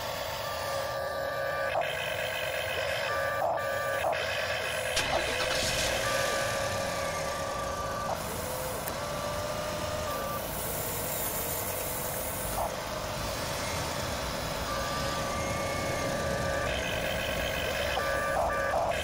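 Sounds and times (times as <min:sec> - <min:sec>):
toy excavator motors whining: 0:00.0 - 0:19.0.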